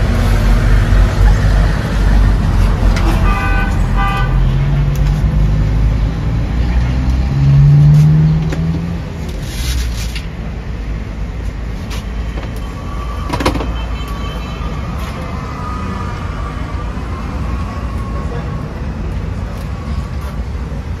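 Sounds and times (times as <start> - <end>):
low traffic rumble: 0.0 - 21.0
vehicle engine humming: 0.0 - 21.0.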